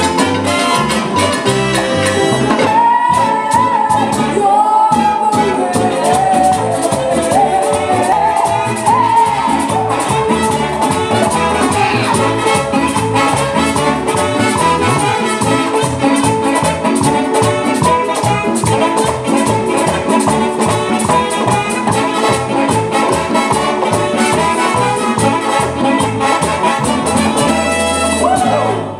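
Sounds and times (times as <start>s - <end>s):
bass: 0.0s - 28.9s
congas and timbales: 0.0s - 28.9s
piano: 0.0s - 28.9s
trumpet section: 0.0s - 28.9s.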